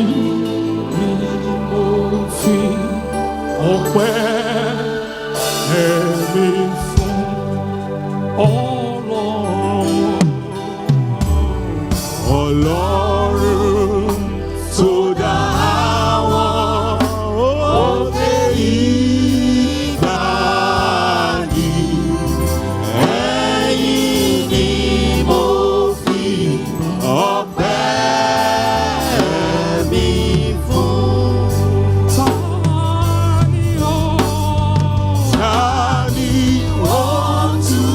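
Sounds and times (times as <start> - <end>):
sustained bass accompaniment: 0.0 - 37.9
voices singing with vibrato: 0.0 - 37.9.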